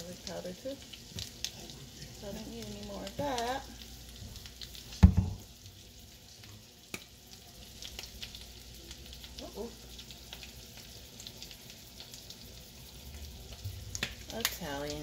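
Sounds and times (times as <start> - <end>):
butter sizzling in frying pan: 0.0 - 15.0.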